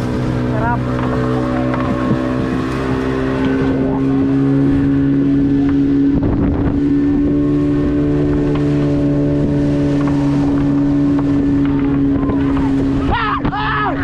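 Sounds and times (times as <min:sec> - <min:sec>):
boat engine running: 0:00.0 - 0:14.0
wind buffeting microphone: 0:00.0 - 0:14.0.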